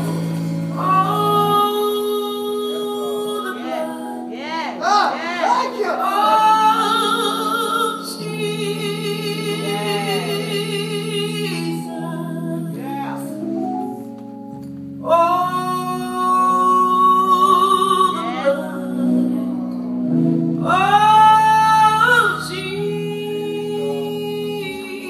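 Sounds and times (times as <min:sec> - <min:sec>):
solo singer with vibrato: 0:00.7 - 0:13.4, 0:15.0 - 0:19.7, 0:20.6 - 0:25.0.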